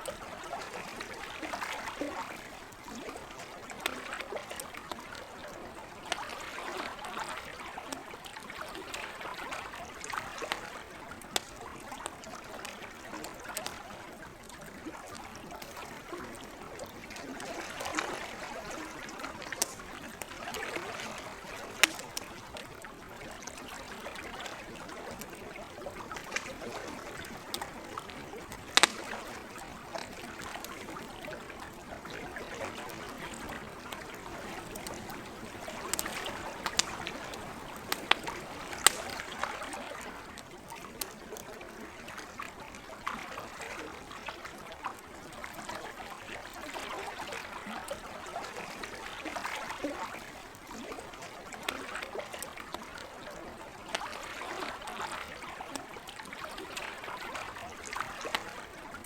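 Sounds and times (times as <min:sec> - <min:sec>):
campfire crackling and popping: 0:00.0 - 0:42.6, 0:47.8 - 0:54.1
lake water lapping: 0:00.0 - 0:59.0.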